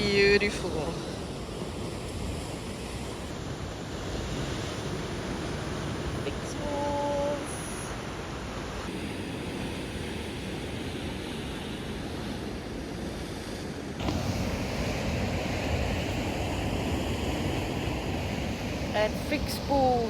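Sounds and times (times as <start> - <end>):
surf breaking on rocky shore: 0.0 - 20.0
wind buffeting microphone: 0.0 - 20.0.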